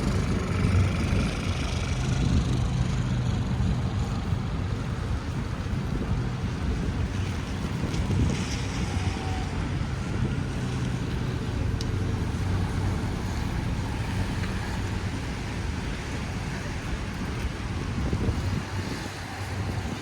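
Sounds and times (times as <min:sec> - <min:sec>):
city street traffic rumble: 0:00.0 - 0:20.0
wind noise on microphone: 0:00.0 - 0:20.0.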